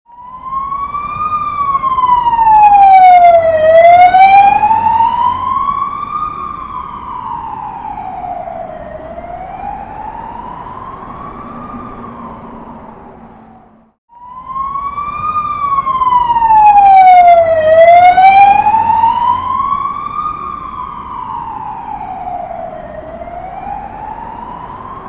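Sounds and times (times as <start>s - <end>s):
low street noise: 0.1s - 25.0s
police siren wailing: 0.1s - 25.0s.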